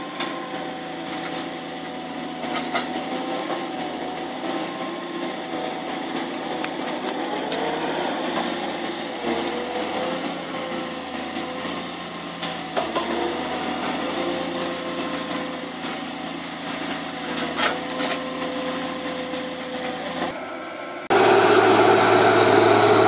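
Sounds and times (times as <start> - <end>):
harvester engine hum: 0.0 - 23.0
hydraulic whine: 0.0 - 23.0.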